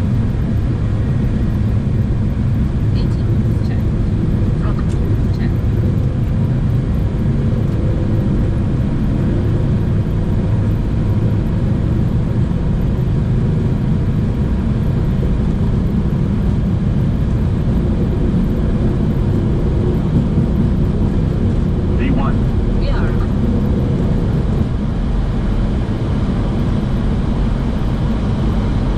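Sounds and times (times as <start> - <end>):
jet engines rumbling: 0.0 - 28.9.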